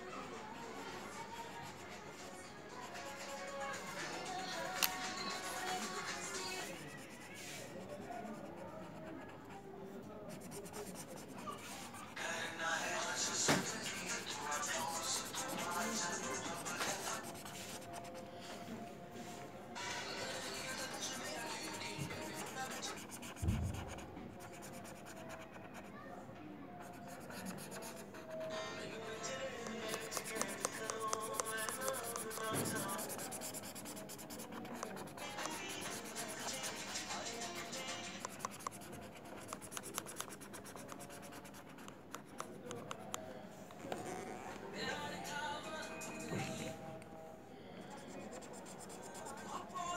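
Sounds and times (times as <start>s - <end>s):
marker pen scratching paper: 1.6s - 12.2s, 12.8s - 18.3s, 19.8s - 25.9s, 26.8s - 28.6s, 29.2s - 43.2s, 43.8s - 44.6s, 47.9s - 49.9s.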